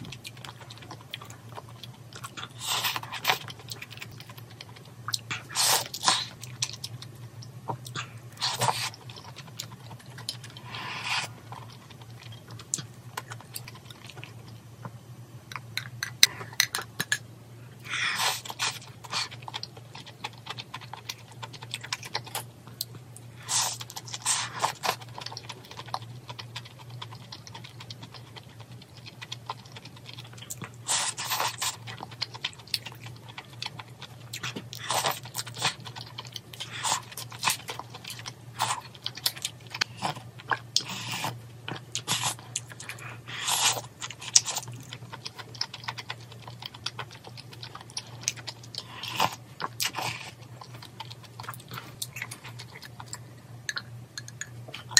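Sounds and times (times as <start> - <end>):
chewing noodles and meat: 0.0 - 16.5, 17.8 - 54.9.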